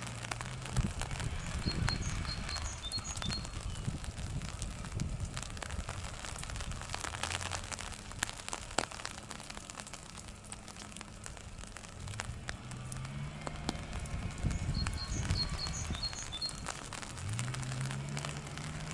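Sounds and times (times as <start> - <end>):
raindrops tapping on umbrella: 0.0 - 18.9.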